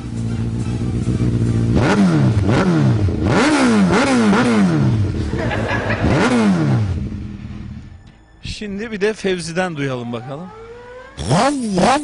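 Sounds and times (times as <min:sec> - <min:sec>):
motorcycle engine revving: 0:00.0 - 0:08.0, 0:10.3 - 0:12.0.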